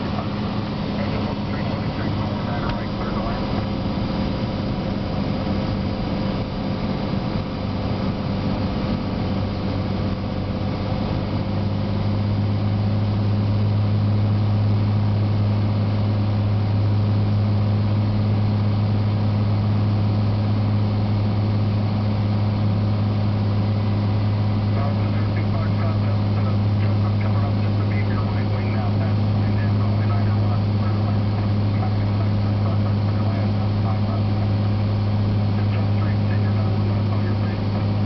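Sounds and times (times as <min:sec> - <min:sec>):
airplane engine and propeller drone: 0:00.0 - 0:38.0.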